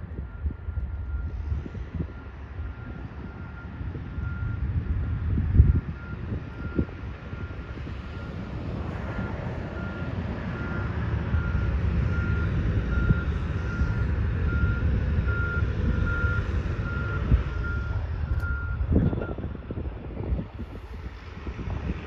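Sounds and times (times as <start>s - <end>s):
vehicle backup alarm beeps: 0.0s - 19.5s
wind buffeting microphone: 0.0s - 22.0s.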